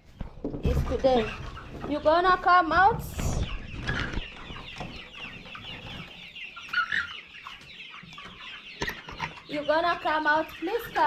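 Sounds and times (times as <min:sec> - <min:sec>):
young chickens clucking and cheeping: 0:00.0 - 0:11.0.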